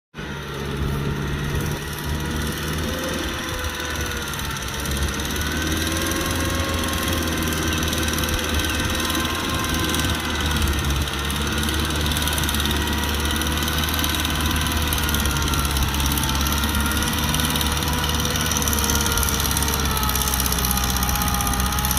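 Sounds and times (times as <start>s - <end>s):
tractor diesel engine running: 0.1s - 21.9s.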